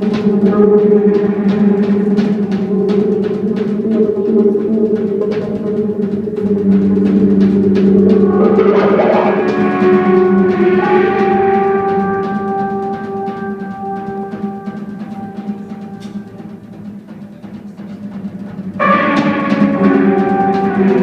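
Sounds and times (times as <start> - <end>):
jazz-rock band playing: 0.0 - 16.9, 18.0 - 21.0
drums and cymbals: 0.0 - 21.0
held keyboard chords: 0.0 - 21.0.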